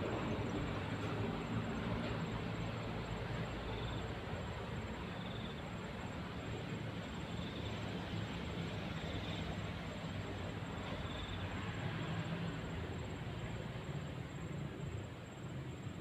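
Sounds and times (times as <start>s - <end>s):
pulsing insect trill: 0.1s - 15.0s.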